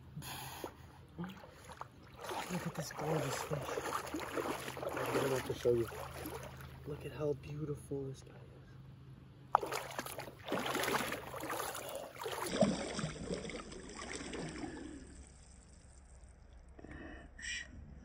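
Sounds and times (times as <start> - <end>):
shallow river water splashing: 0.0 - 7.4, 9.4 - 16.6.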